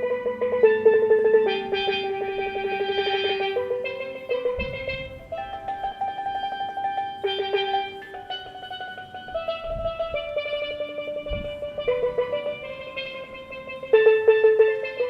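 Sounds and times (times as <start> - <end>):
steel pan melody rolls: 0.0 - 15.0
low drum beat: 0.1 - 15.0.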